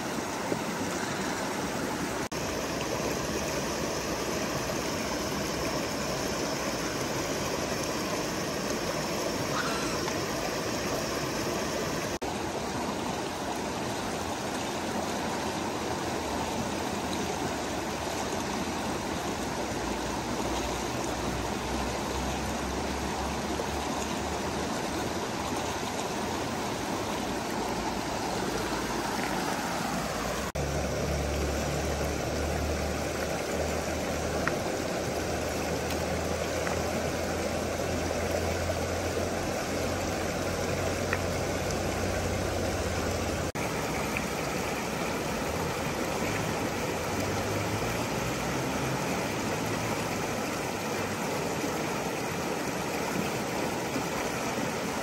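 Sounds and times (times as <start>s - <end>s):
stream splashing over stones: 0.0s - 55.0s.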